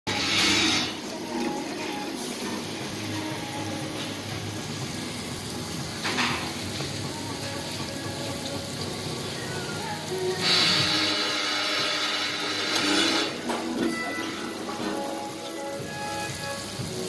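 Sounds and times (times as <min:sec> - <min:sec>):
batter frying in hot oil: 0:00.1 - 0:17.0.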